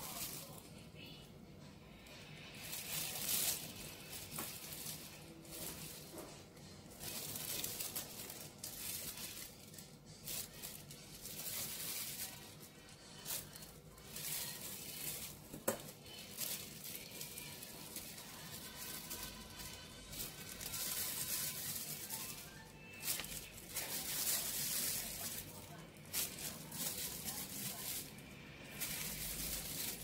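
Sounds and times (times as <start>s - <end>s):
leaves tearing and rustling: 2.5s - 30.0s.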